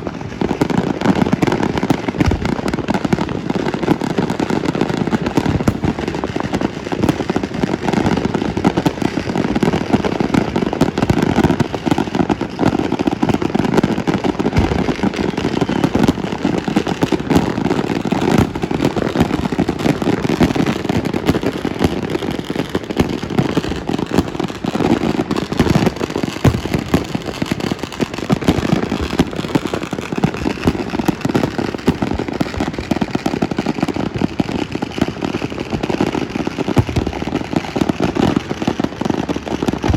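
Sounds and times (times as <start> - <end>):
fireworks and firecrackers popping: 0.0 - 39.9.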